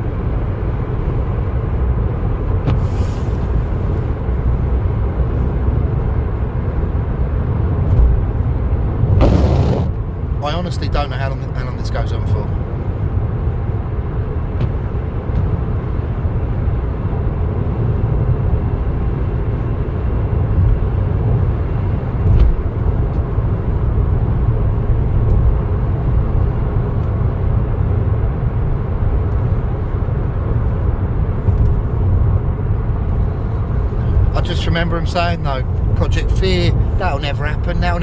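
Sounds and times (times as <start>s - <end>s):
car driving rumble: 0.0s - 38.0s.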